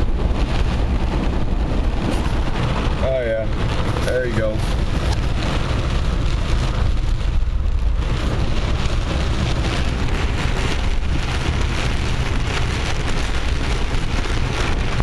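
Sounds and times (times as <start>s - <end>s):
heavy rain on vehicle roof: 0.0s - 15.0s
vehicle rumbling on wet road: 0.0s - 15.0s.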